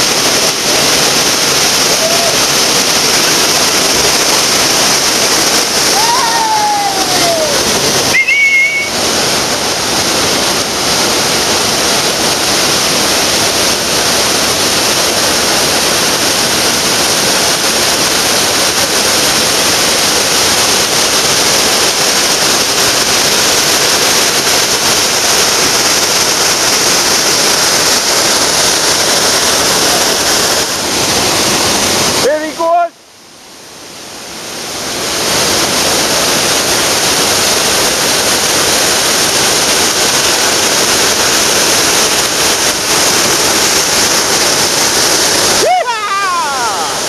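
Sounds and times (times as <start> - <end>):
whitewater roaring over rocks: 0.0 - 47.0.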